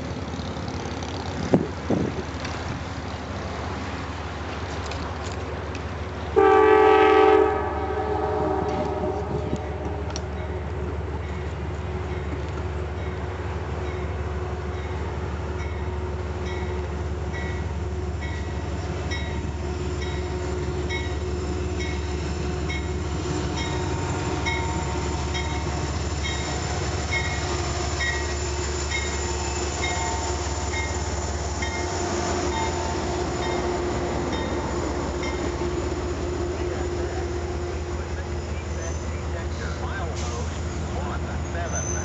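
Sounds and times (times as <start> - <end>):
diesel train passing: 0.0 - 42.0.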